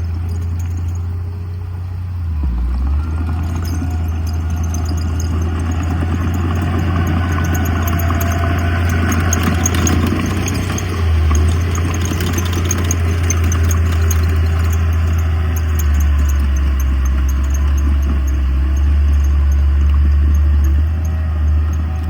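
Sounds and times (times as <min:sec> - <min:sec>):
diesel engine low drone: 0:00.0 - 0:22.0.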